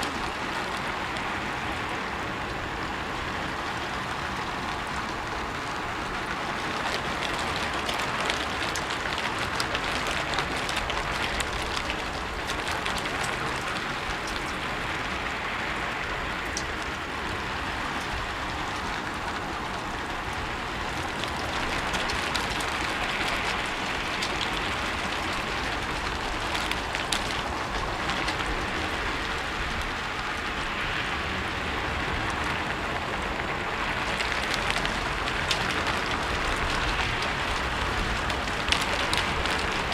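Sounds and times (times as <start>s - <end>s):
rain hissing: 0.0s - 39.9s
raindrops ticking on roof: 0.0s - 39.9s.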